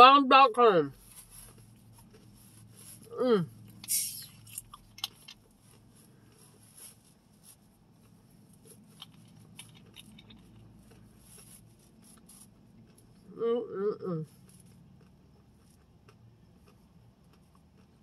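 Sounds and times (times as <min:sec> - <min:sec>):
close-up chewing: 0:01.1 - 0:13.4, 0:14.2 - 0:18.0.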